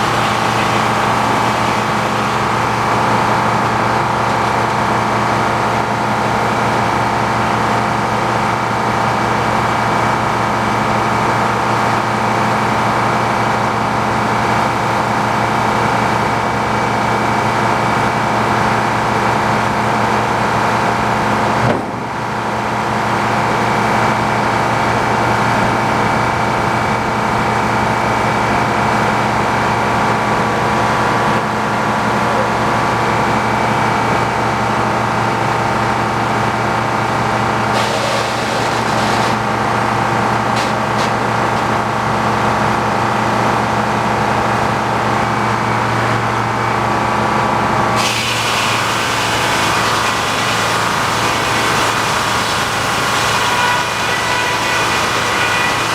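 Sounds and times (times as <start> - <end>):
tractor engine running under load: 0.0 - 55.9.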